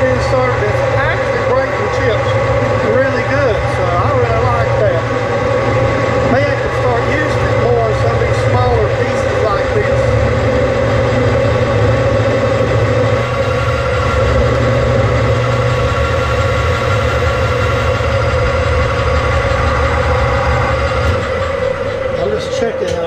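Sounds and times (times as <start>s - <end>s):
metal lathe humming and whining: 0.0s - 23.0s.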